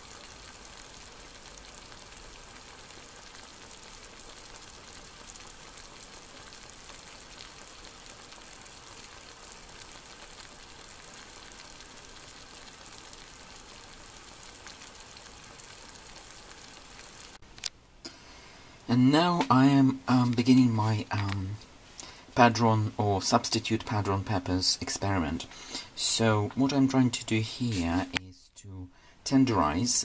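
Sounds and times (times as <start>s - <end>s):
crackling sizzle in a pan: 0.0s - 19.5s, 20.1s - 28.2s.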